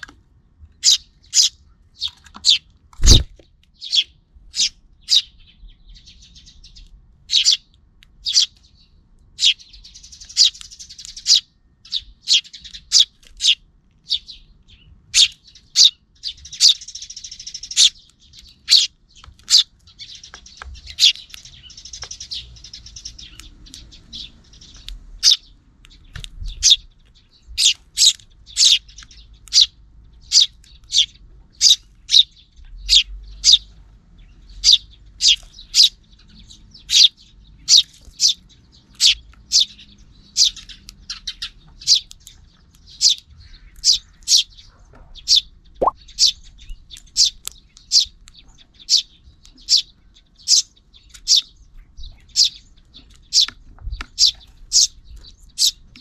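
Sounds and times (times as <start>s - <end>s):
sparrows chirping: 0.0s - 56.0s
soft bird twittering: 0.7s - 56.0s.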